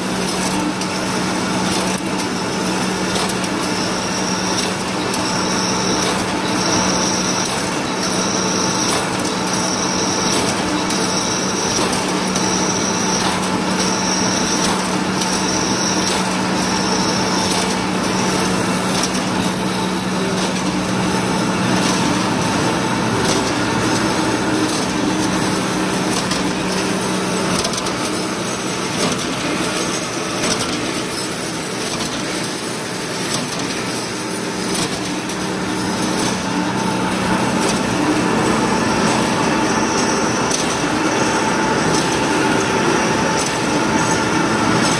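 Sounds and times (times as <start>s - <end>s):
wire cutting machine humming: 0.0s - 44.9s.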